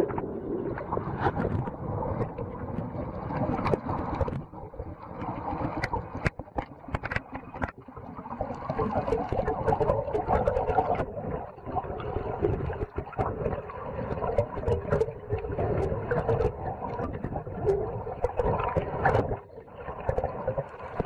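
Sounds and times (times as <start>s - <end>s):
muffled underwater rumble: 0.0s - 21.0s.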